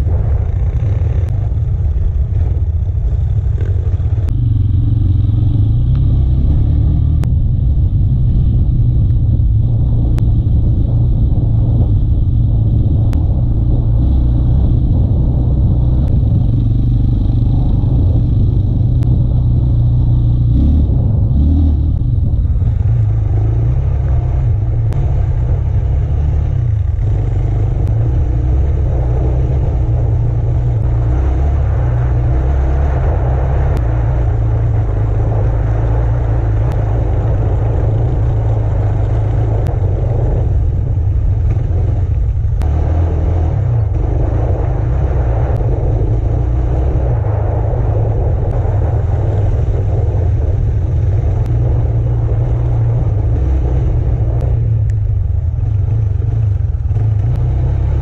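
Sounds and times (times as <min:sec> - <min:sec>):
off-road vehicle engine running: 0:00.0 - 0:58.0.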